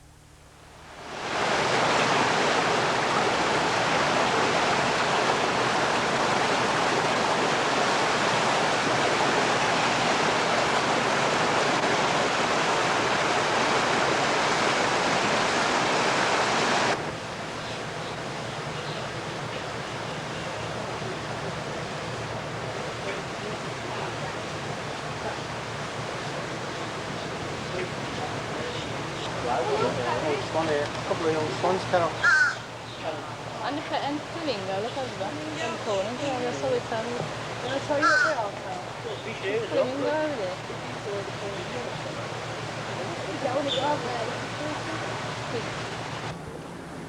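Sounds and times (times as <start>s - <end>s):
water rushing: 0.7s - 47.0s.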